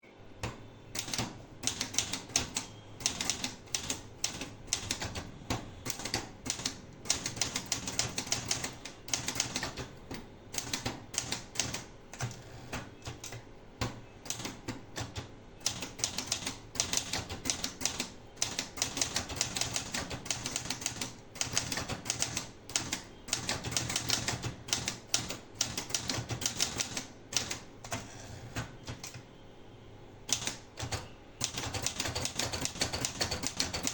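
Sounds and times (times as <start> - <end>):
manual typewriter typing: 0.9 - 13.4, 14.2 - 29.2, 30.3 - 33.9.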